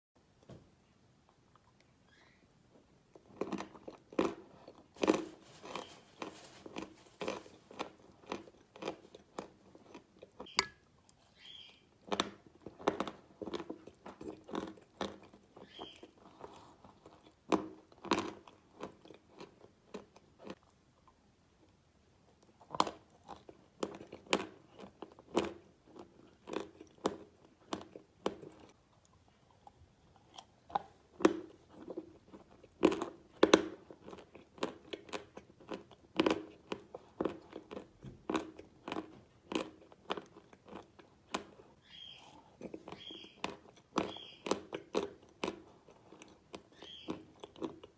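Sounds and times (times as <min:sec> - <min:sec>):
person chewing: 0:03.0 - 0:47.9.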